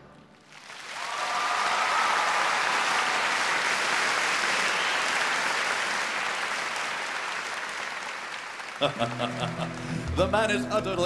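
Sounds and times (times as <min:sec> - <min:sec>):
audience applauding: 0:00.3 - 0:10.2.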